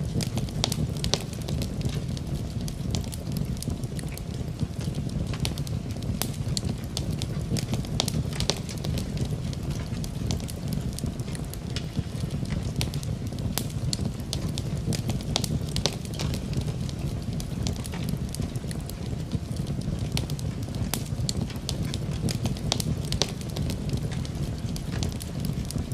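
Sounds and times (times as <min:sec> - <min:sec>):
steady rain: 0:00.0 - 0:25.9
wood fire crackling: 0:00.0 - 0:25.9.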